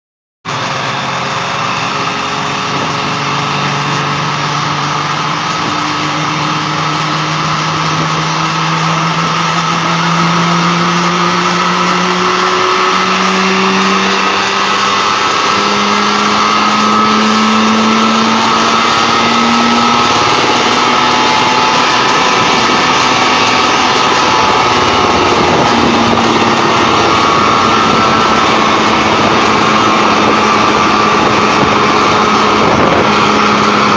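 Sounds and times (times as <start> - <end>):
helicopter engine running: 0.5 - 33.9.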